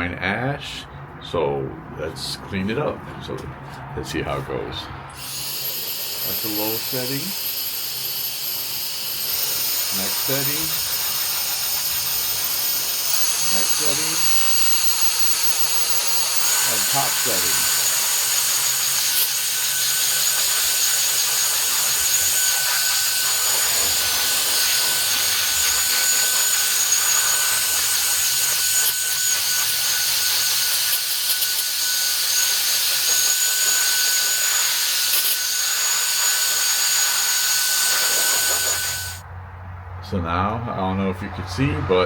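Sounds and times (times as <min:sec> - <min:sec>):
air duster blowing with motor whine: 0:05.1 - 0:39.2.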